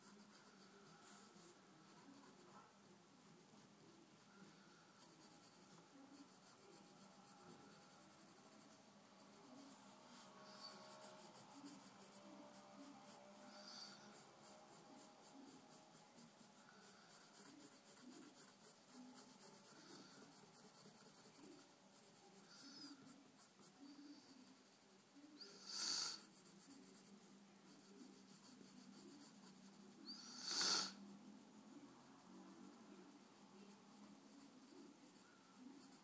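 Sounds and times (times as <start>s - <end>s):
pencil scratching on paper: 0.0s - 36.0s.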